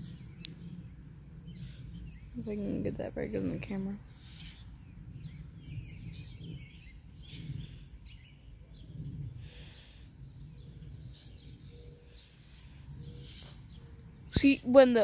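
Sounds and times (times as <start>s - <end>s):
low rumble: 0.0s - 15.0s
songbirds chirping: 0.0s - 15.0s.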